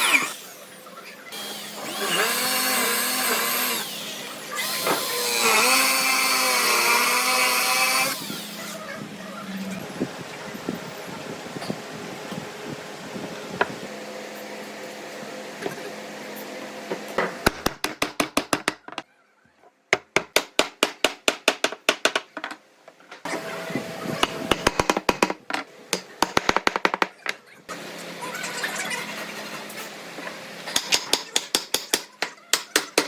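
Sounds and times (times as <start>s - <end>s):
workshop background noise: 0.0s - 33.0s.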